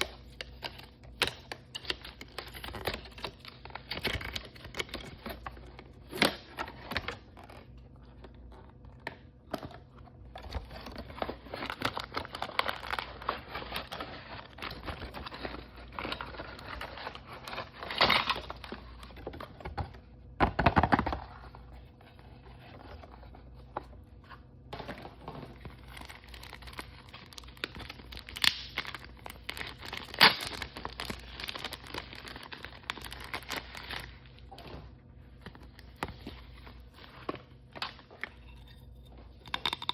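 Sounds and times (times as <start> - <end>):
packaging crinkling and rustling: 0.0 - 39.9.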